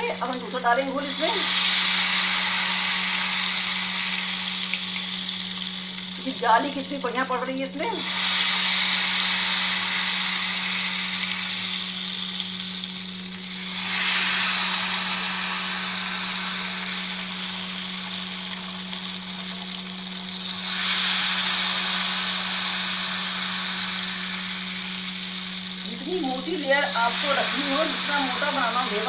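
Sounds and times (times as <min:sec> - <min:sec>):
batter sizzling in hot fat: 0:00.0 - 0:29.0
steady low hum: 0:00.0 - 0:29.0.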